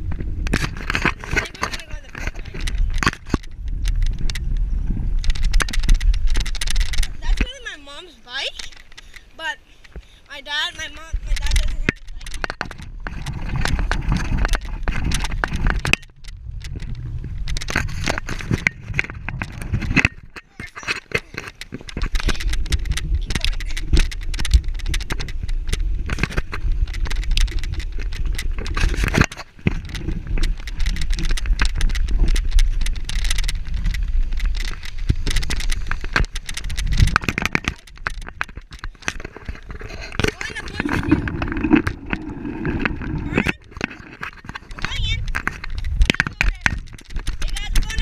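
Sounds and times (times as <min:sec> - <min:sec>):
bicycle rattling and crackling: 0:00.0 - 0:48.0
wind buffeting microphone: 0:00.0 - 0:48.0.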